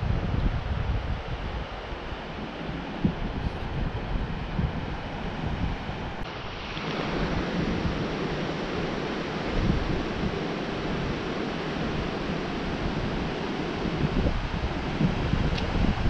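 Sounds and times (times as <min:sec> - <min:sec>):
ocean surf: 0:00.0 - 0:16.0
wind gusting on microphone: 0:00.0 - 0:16.0.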